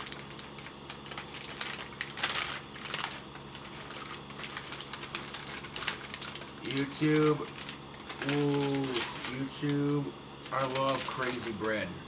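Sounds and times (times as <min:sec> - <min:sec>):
paper bag rustling: 0:00.0 - 0:11.9.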